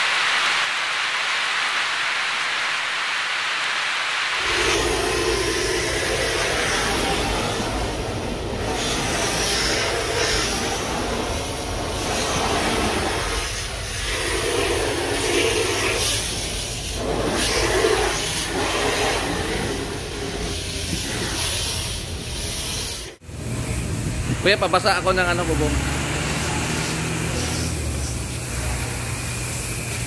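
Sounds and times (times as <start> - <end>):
hose water spraying on car roof: 0.1 - 23.2, 24.6 - 30.0.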